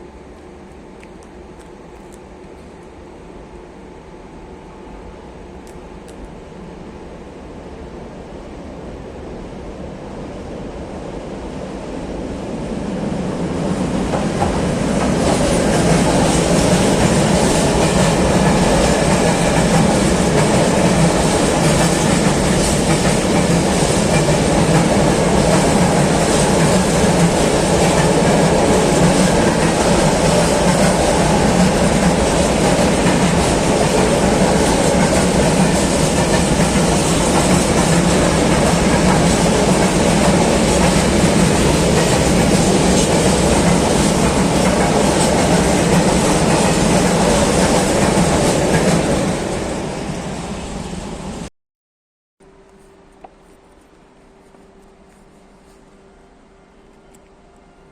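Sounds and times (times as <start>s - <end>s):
freight train rumble: 0.0s - 51.5s.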